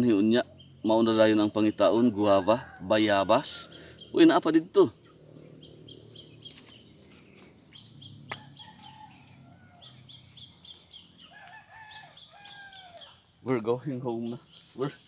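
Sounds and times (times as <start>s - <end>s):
distant bird calls: 0.0s - 15.0s
insects chirring: 0.0s - 15.0s.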